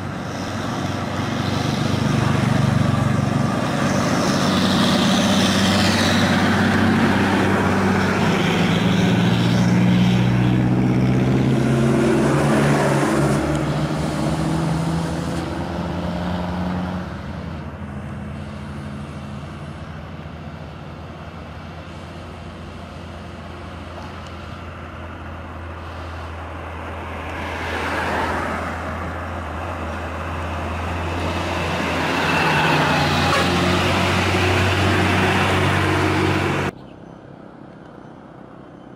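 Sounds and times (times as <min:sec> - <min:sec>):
diesel truck engines passing: 0:00.0 - 0:38.9
traffic noise: 0:00.0 - 0:38.9.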